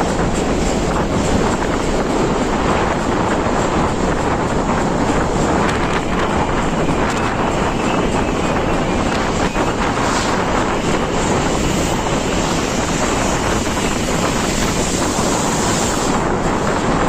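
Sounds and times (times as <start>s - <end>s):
sea rushing along ship hull: 0.0s - 17.0s
wind blowing across microphone: 0.0s - 17.0s.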